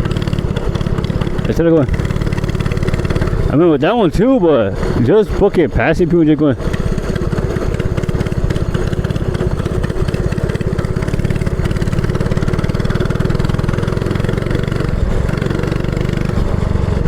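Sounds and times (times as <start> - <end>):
minibike engine running: 0.0 - 17.0.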